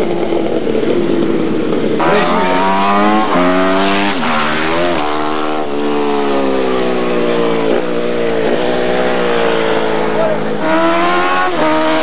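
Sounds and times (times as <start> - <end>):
motorcycle engine at high revs: 0.0 - 12.0.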